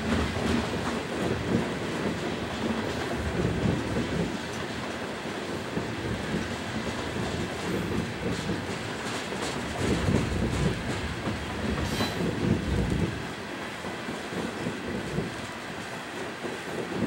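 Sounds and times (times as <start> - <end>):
freight train wheels rumbling on rail: 0.0 - 17.0
train cars clattering: 0.0 - 17.0.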